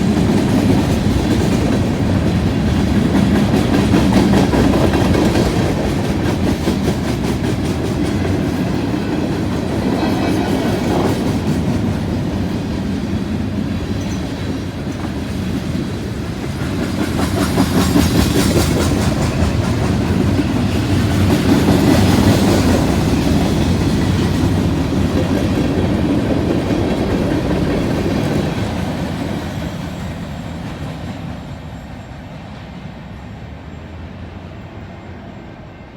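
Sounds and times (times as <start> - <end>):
freight train rolling past: 0.0 - 35.9.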